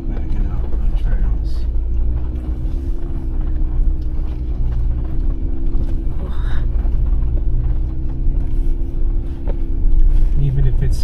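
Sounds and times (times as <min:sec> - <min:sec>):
engine hum inside vehicle: 0:00.0 - 0:11.0
tyre and drivetrain rumble: 0:00.0 - 0:11.0.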